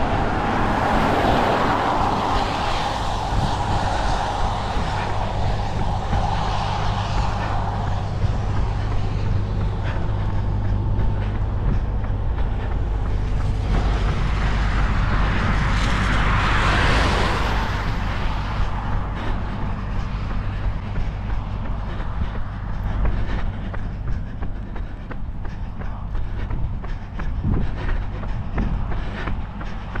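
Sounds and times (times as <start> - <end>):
road vehicle passing: 0.0 - 30.0
steady low rumble: 0.0 - 30.0.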